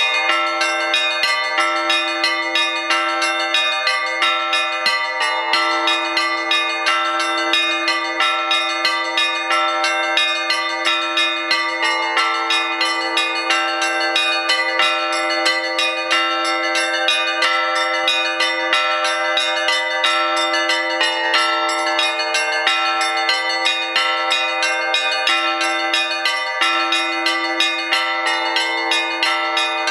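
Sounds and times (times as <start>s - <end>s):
higher bells ringing in pattern: 0.0s - 29.9s.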